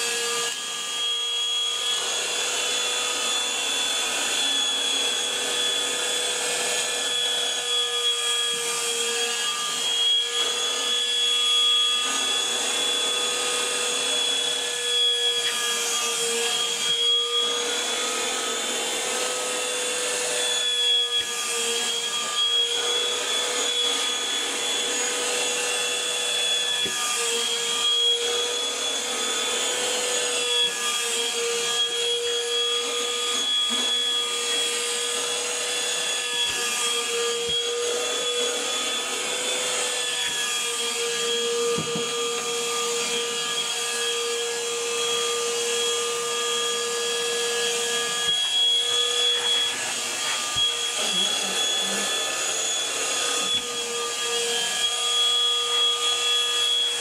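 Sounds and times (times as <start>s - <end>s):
handheld vacuum cleaner running: 0.0s - 57.0s.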